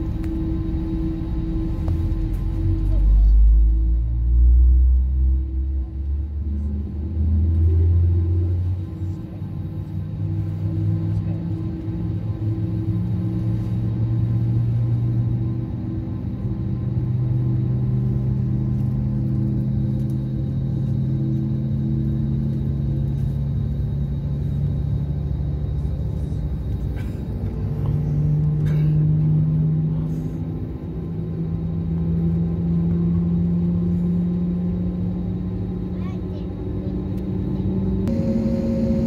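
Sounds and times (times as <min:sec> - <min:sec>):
jet engines droning in cabin: 0:00.0 - 0:39.0.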